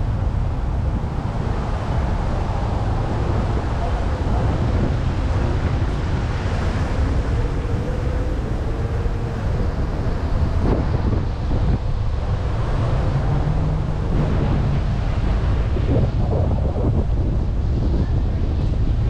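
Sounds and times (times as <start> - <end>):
faint street traffic: 0.0 - 19.0
wind buffeting microphone: 0.0 - 19.0.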